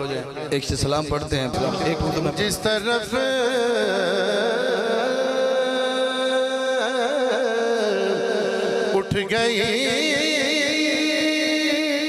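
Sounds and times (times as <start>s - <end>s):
man singing: 1.4s - 12.0s.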